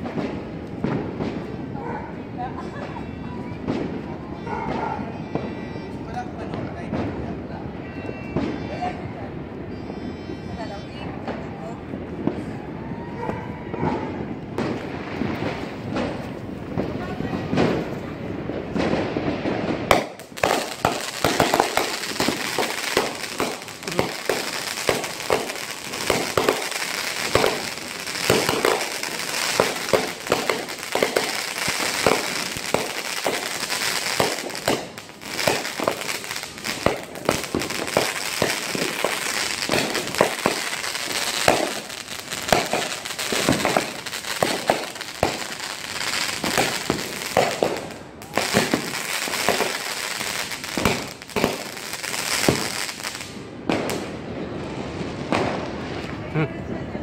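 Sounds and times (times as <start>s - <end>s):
fireworks and firecrackers banging: 0.0s - 57.0s.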